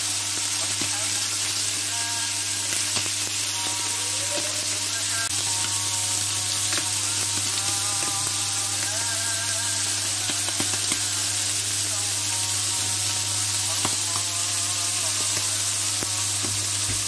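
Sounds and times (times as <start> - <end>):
meat sizzling on a griddle: 0.0 - 17.0.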